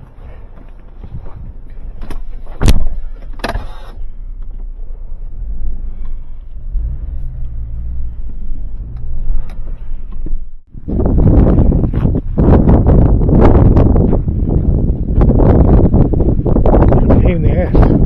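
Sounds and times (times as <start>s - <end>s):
car engine running: 0.1s - 17.0s.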